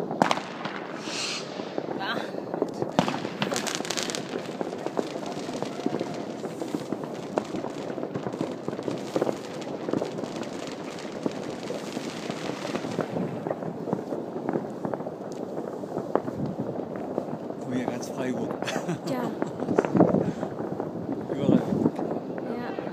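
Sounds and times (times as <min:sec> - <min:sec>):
distant fireworks bangs and crackles: 0:00.0 - 0:22.9.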